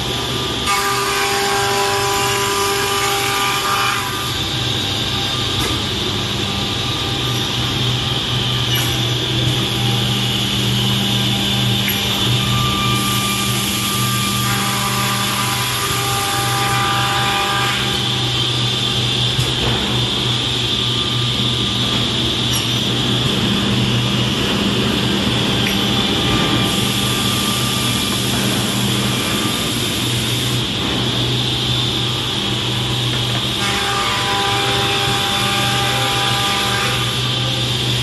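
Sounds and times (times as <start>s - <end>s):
edge banding machine running: 0.0s - 38.0s
high machine whine: 0.0s - 38.0s.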